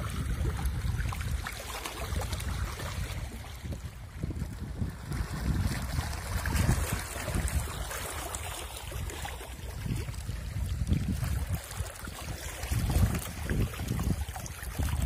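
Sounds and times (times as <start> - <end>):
small waves lapping: 0.0 - 15.0
wind rumbling on microphone: 0.0 - 15.0.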